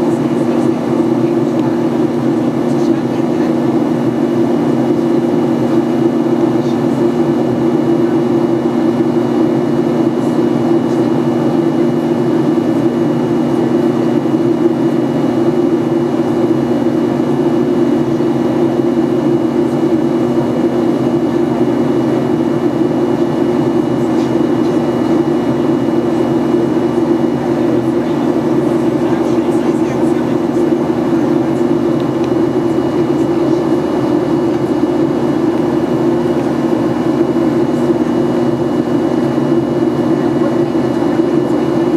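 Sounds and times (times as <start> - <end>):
constant low hum: 0.0 - 41.9
jet engines and airflow rushing: 0.0 - 41.9.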